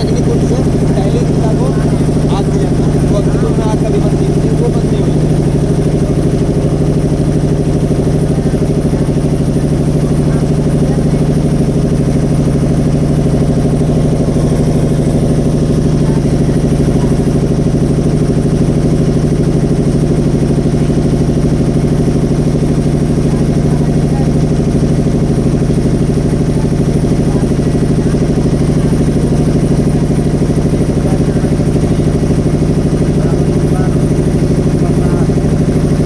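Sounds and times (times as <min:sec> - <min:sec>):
boat engine running: 0:00.0 - 0:36.0.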